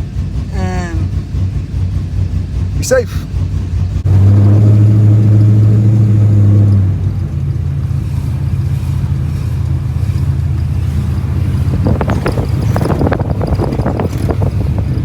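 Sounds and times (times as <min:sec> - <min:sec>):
vehicle engine and road drone: 0:00.0 - 0:15.0.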